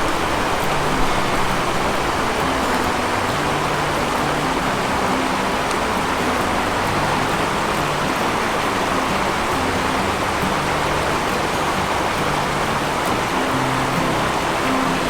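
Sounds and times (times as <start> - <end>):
low background music: 0.0 - 15.0.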